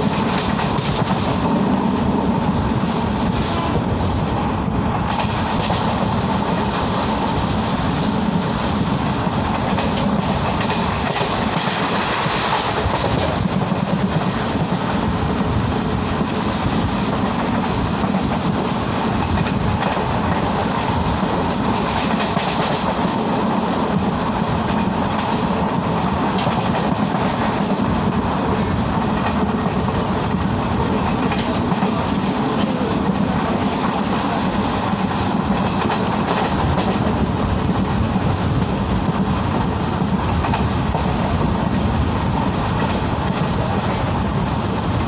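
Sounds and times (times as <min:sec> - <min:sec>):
train wheel and rail noise: 0:00.0 - 0:45.0.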